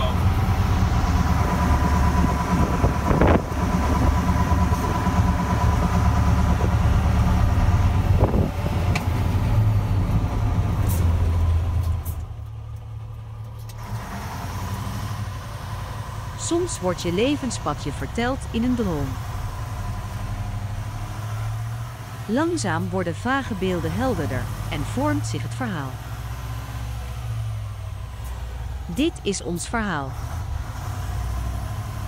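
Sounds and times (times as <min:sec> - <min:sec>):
truck engine drone from cab: 0:00.0 - 0:32.0.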